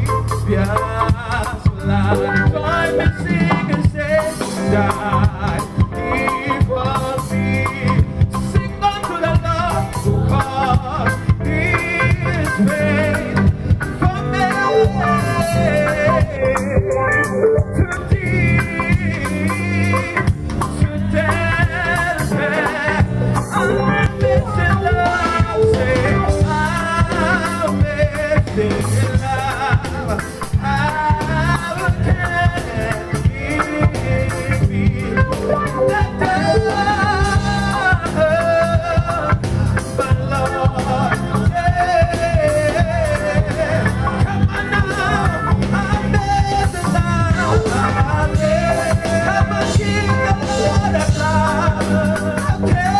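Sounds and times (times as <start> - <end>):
bass guitar: 0.0 - 52.9
drums: 0.0 - 52.9
keyboard: 0.0 - 52.9
lead guitar: 0.0 - 52.9
live band playing: 0.0 - 52.9
voices singing: 0.0 - 52.9.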